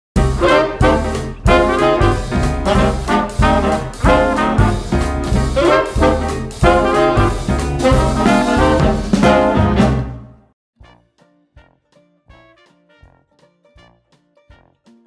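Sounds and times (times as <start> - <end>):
upbeat rhythmic music: 0.2 - 15.0.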